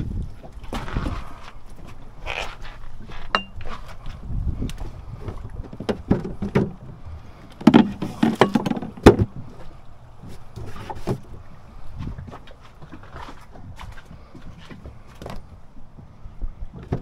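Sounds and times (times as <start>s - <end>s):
knocks and thumps on a boat: 3.0s - 17.0s.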